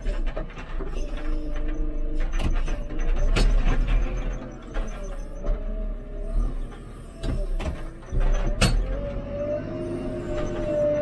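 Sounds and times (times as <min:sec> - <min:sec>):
diesel engine running: 0:00.0 - 0:11.0
hydraulic whine: 0:00.0 - 0:11.0.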